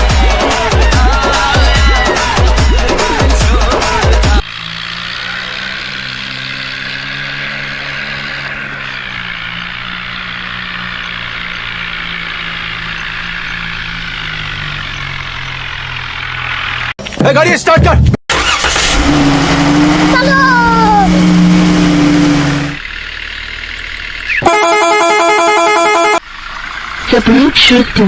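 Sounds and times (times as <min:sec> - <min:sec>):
vehicle engine idling: 0:00.0 - 0:17.0, 0:18.3 - 0:28.0.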